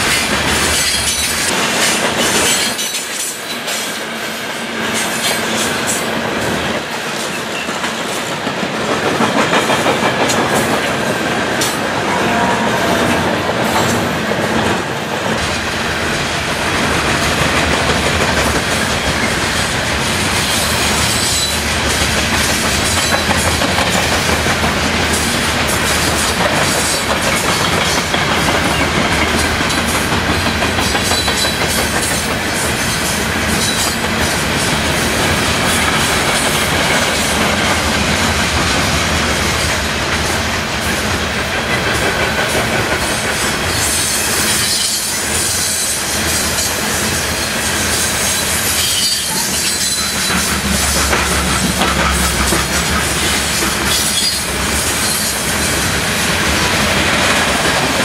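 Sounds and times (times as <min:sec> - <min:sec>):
freight train wheels rumbling and rattling: 0:00.0 - 0:58.0.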